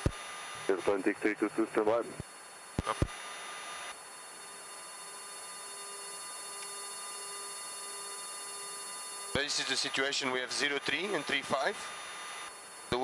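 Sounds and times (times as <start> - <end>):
cockpit hiss: 0.0 - 13.0.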